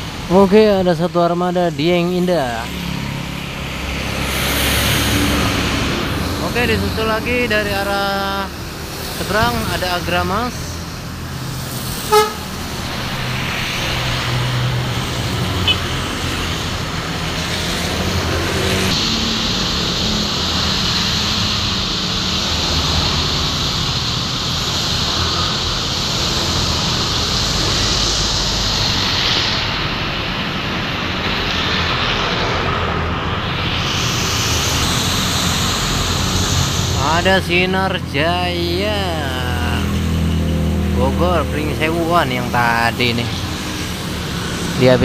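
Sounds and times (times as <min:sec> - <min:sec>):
bus engines passing: 0:00.0 - 0:45.0
motorbike engines passing: 0:00.0 - 0:45.0
tyres hissing on wet road: 0:00.0 - 0:45.0.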